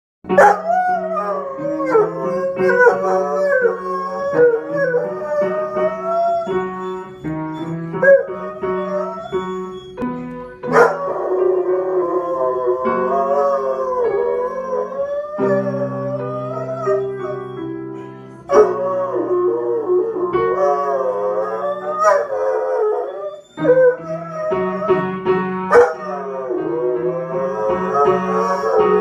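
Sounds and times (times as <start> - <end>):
upright piano playing: 0.2 - 29.0
dog howling: 0.4 - 10.0, 10.7 - 17.6, 18.5 - 25.0, 25.7 - 29.0.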